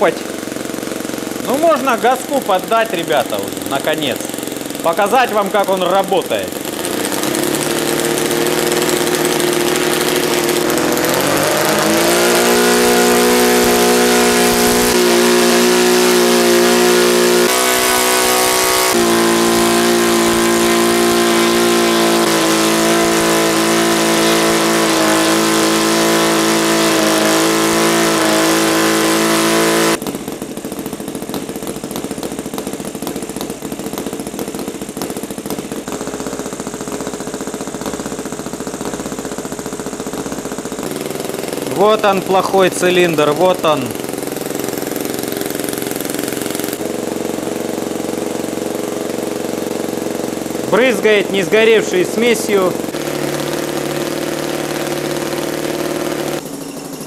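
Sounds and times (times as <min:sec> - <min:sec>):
model engine running unevenly: 0:00.0 - 0:57.0.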